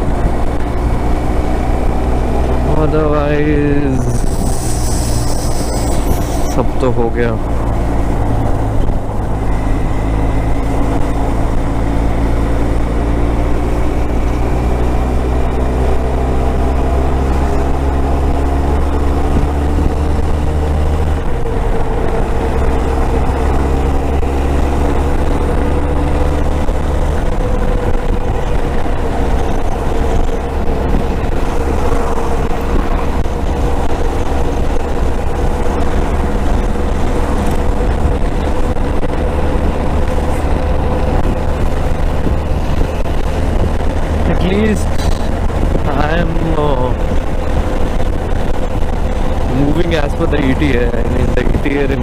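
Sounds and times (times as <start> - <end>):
low wind rumble: 0.0 - 52.0
motorcycle engine running: 0.0 - 52.0.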